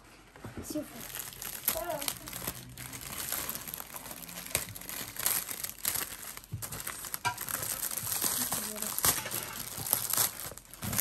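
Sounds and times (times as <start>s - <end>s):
gift wrapping crinkling: 0.7s - 11.0s.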